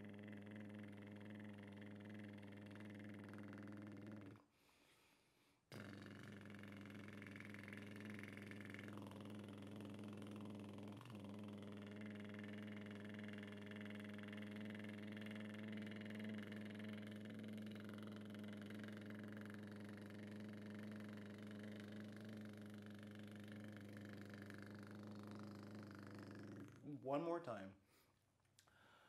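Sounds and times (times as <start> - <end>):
man's lip trill: 0.0 - 4.5, 5.7 - 27.6.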